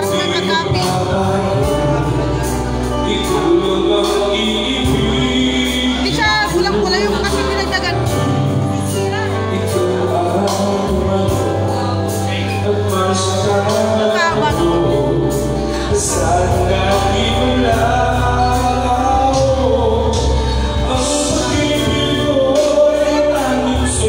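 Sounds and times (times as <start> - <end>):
music with steady bass line: 0.0 - 24.0
person singing into microphone: 0.0 - 24.0.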